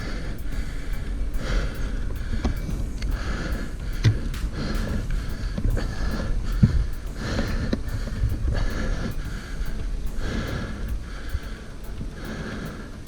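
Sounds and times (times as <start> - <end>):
cyclist breathing hard: 0.0 - 13.0
wind and tyre rumble: 0.0 - 13.0.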